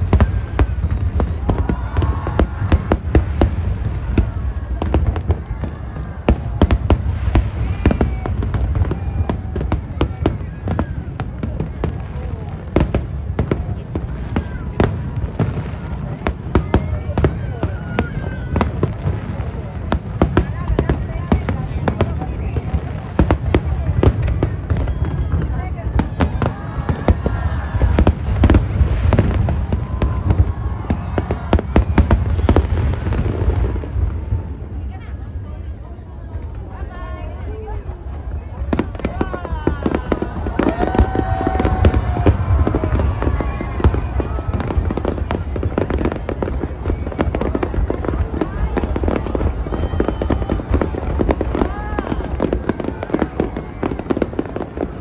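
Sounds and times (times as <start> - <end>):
distant firework rumble: 0.0 - 55.0
firework bangs: 0.0 - 55.0.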